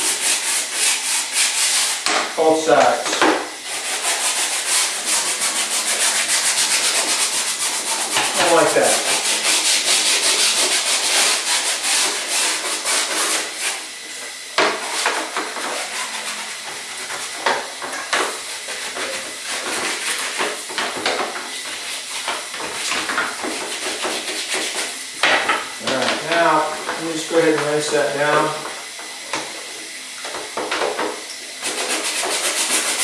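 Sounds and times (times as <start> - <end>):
brush scrubbing mesh screen: 0.0 - 25.2, 25.8 - 29.7, 31.6 - 33.0
tap water running: 0.0 - 33.0.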